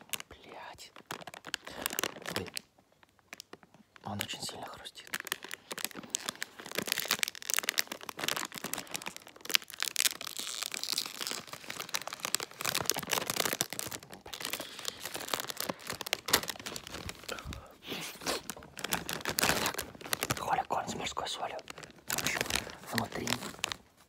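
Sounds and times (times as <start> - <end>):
popcorn bag crinkling: 0.0 - 24.0.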